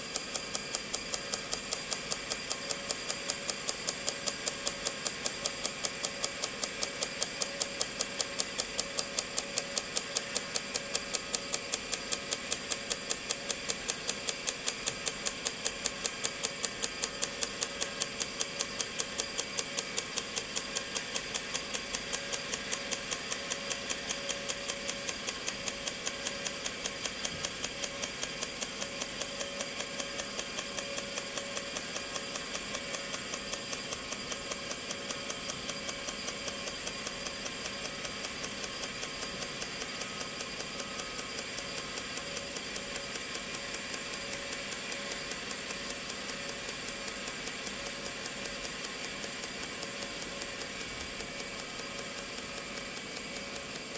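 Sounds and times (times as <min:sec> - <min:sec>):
rapid mechanical ticking: 0:00.0 - 0:53.9
steady mechanical hum: 0:00.0 - 0:53.9.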